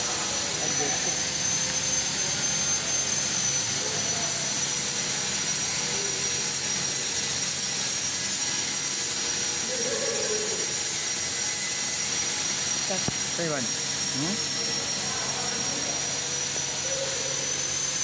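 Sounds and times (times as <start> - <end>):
high whine: 0.0 - 18.0.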